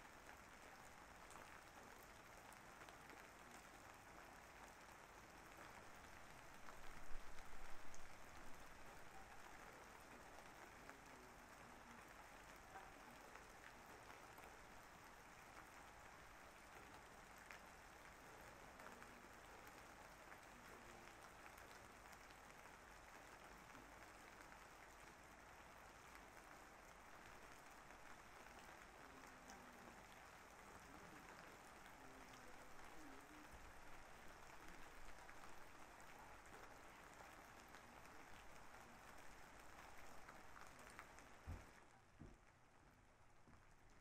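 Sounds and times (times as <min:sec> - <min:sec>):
faint steady rain: 0:00.0 - 0:44.0.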